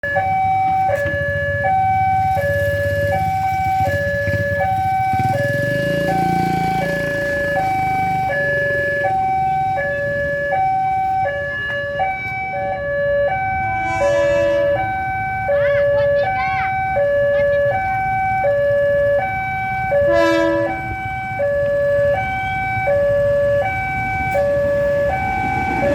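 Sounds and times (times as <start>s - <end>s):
level crossing two-tone alarm: 0.0s - 25.9s.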